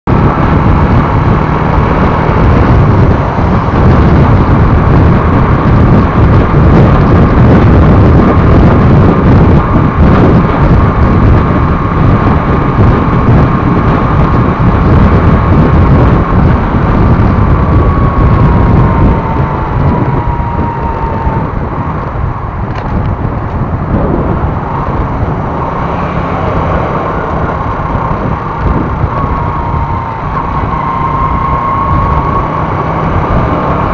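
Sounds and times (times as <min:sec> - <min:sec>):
wind buffeting on microphone: 0:00.0 - 0:33.9
motorcycle engine: 0:00.1 - 0:33.9.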